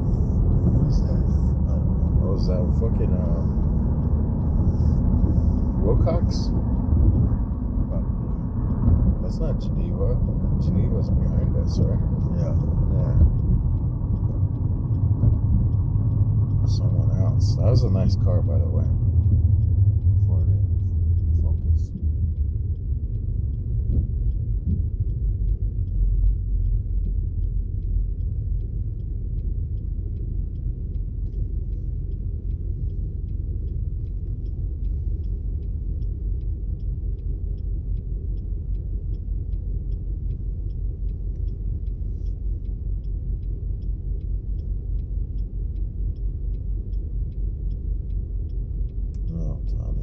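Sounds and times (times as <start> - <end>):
car interior road rumble: 0.0 - 50.0
faint regular ticking: 0.0 - 50.0.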